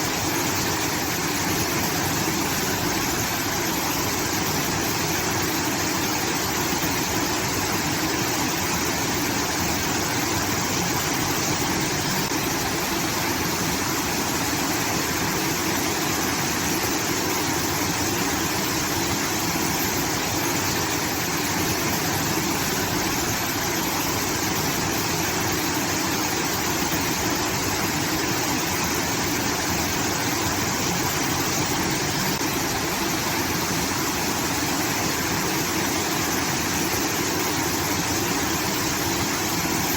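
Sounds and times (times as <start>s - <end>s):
water pouring and cascading: 0.0s - 39.9s.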